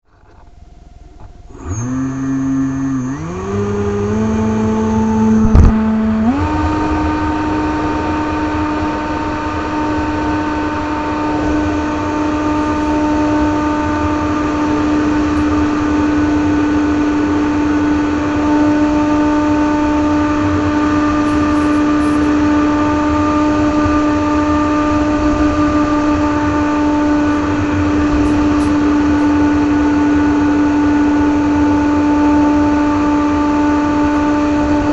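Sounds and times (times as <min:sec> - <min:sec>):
electric motor whine: 0:00.2 - 0:34.9.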